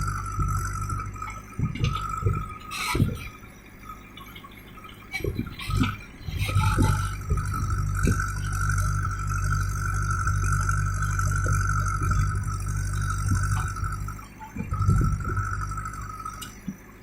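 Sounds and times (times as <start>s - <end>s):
knocks and rattles: 0.0s - 16.9s
diesel engine running: 0.0s - 17.0s
high whine: 0.0s - 17.0s.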